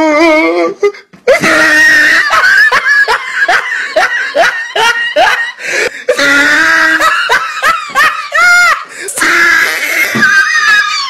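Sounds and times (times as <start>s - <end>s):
woman laughing: 1.3s - 5.6s, 6.3s - 11.0s.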